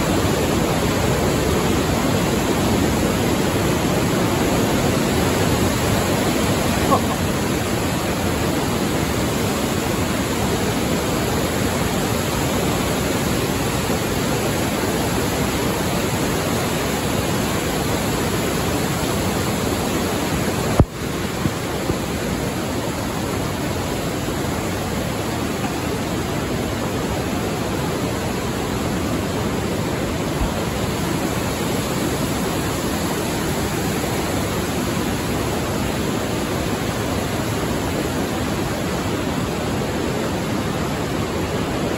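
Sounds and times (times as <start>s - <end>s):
river rushing through gorge: 0.0s - 41.9s.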